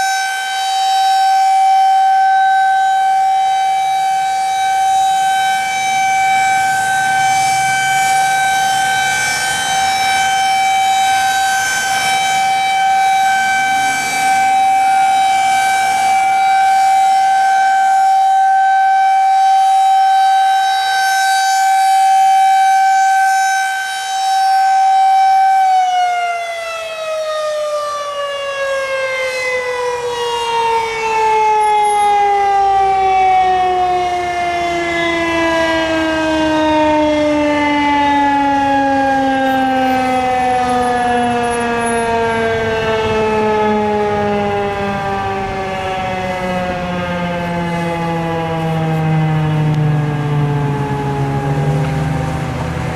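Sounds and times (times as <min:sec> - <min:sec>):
warning siren: 0:00.0 - 0:52.9.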